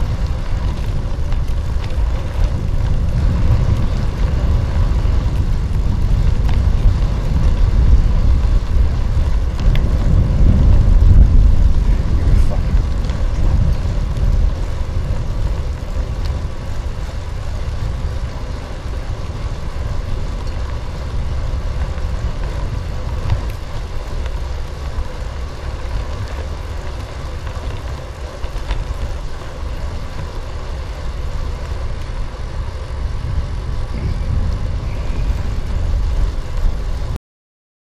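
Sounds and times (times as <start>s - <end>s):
tyre noise on asphalt: 0.0s - 37.2s
wind buffeting microphone: 0.0s - 37.2s.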